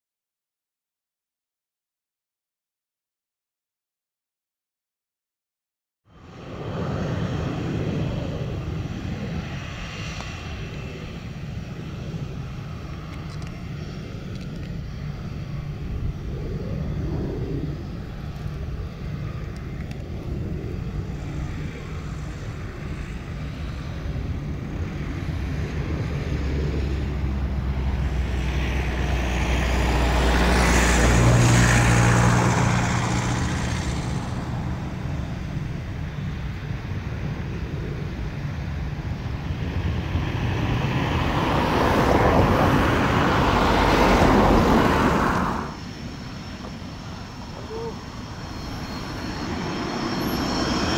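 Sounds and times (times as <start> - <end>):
jet engines humming and whining: 6.1 - 50.9.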